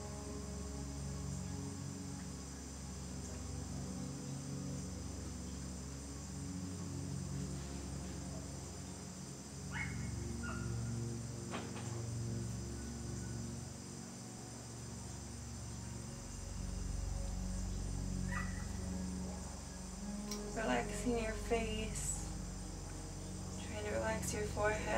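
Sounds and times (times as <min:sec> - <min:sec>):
crickets chirping: 0:00.0 - 0:24.9
low background drone: 0:00.0 - 0:24.9.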